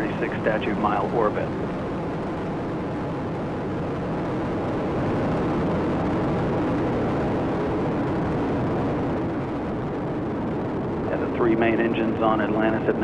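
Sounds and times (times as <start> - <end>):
deep rocket roar: 0.0 - 13.0.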